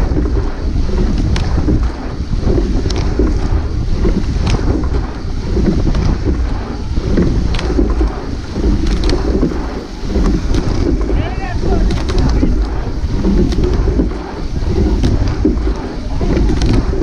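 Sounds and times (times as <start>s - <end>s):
rowing stroke knocks: 0.0s - 17.0s
wind buffeting microphone: 0.0s - 17.0s.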